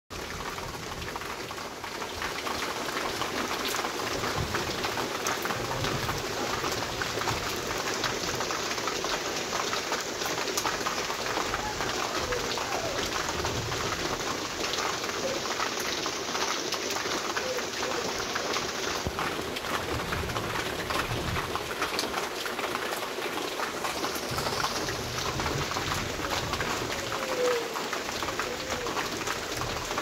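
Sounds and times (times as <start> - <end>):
heavy rain falling: 0.1 - 30.0.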